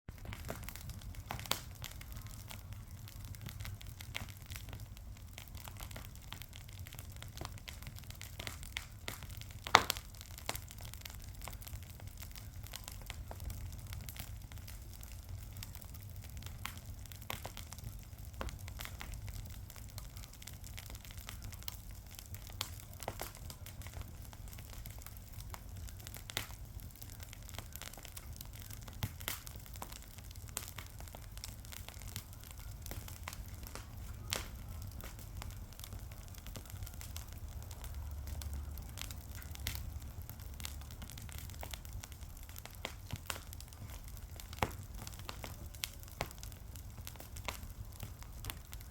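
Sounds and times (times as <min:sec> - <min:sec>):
fire crackling and popping: 0:00.1 - 0:48.9.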